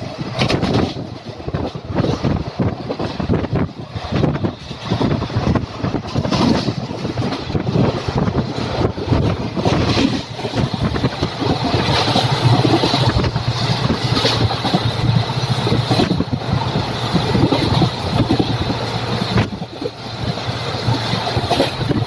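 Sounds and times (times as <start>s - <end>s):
train wheels rumbling on track: 0.0s - 22.0s
wind noise: 0.0s - 22.0s.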